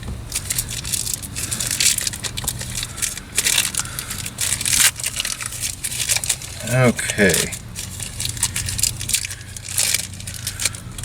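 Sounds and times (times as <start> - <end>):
package wrapping crinkling: 0.0 - 11.0.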